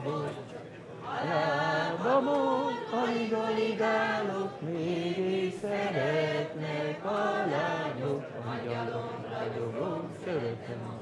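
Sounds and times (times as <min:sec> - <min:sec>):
choir singing in unison: 0:00.0 - 0:11.0.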